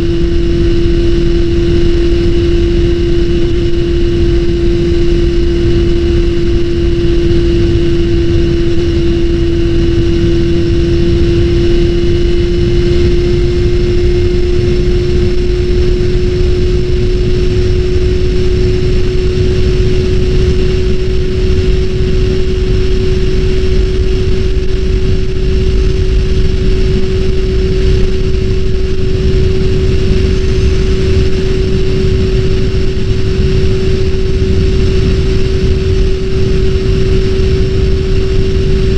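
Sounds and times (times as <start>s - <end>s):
loud steady whine: 0.0s - 38.9s.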